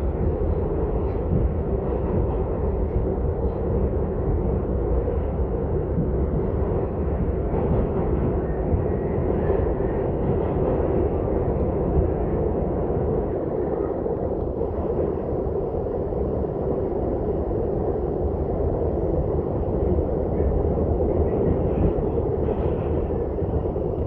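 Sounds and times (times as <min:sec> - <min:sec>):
subway wheels rumbling on rail: 0:00.0 - 0:24.0.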